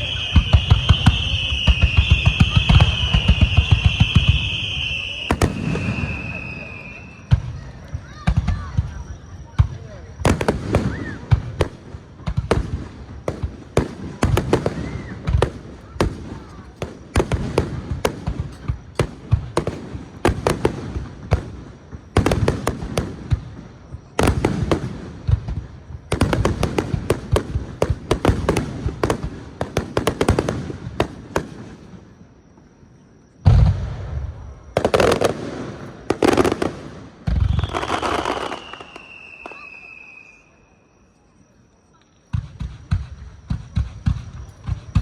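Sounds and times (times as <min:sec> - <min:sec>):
fireworks bangs and crackling: 0:00.0 - 0:40.6, 0:41.9 - 0:45.0.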